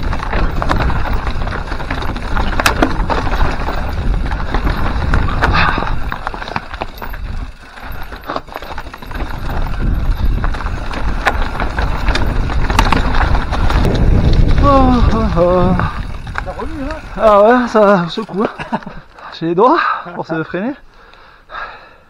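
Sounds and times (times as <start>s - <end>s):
wind rumbling on microphone: 0.0s - 18.0s
wheels clacking on rocks: 0.0s - 19.5s
mountain bike rattling: 0.0s - 21.8s.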